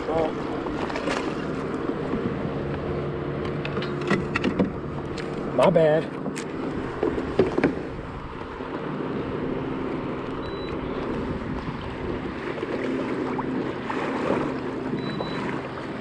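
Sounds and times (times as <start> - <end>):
water rushing along a hull: 0.0 - 16.0.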